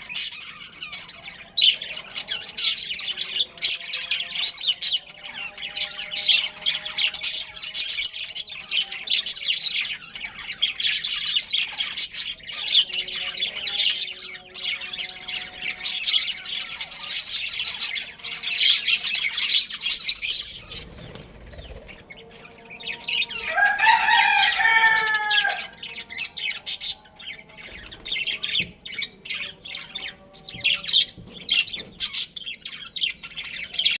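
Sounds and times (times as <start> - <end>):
budgerigars chirping and chattering: 0.0 - 34.0.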